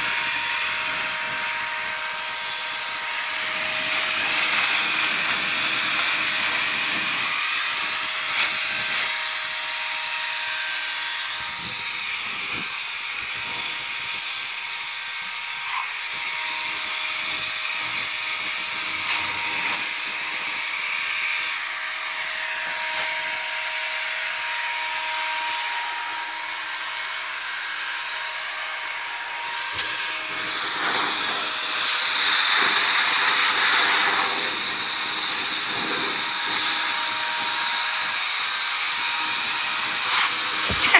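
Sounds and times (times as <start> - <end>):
leaf blower motor whine: 0.0 - 40.9.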